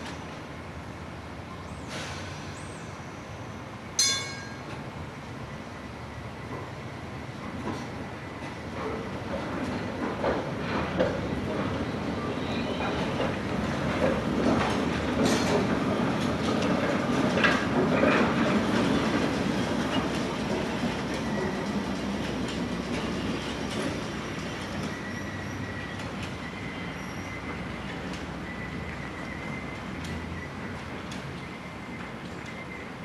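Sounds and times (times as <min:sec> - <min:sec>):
streetcar wheels clicking over rails: 0:04.1 - 0:33.0.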